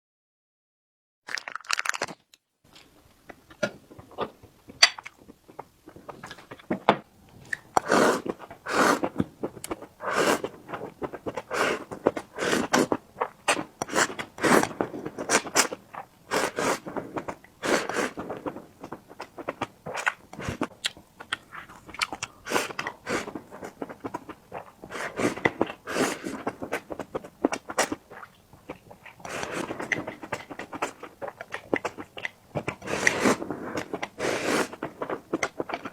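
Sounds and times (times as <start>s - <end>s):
person chewing crunchy food: 1.3s - 35.9s.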